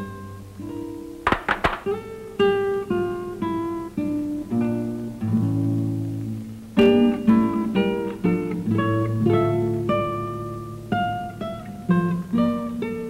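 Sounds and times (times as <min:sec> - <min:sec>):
acoustic guitar melody: 0:00.0 - 0:13.0.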